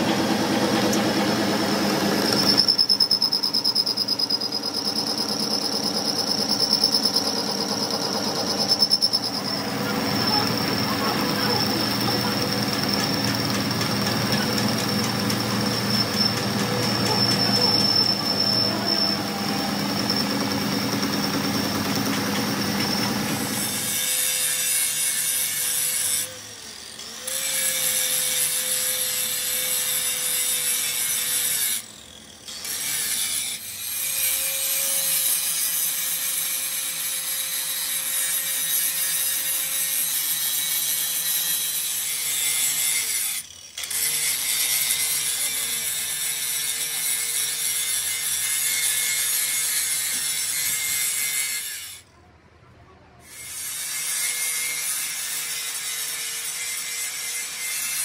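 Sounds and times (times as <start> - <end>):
angle grinder grinding metal: 0.0 - 52.1, 53.3 - 58.0.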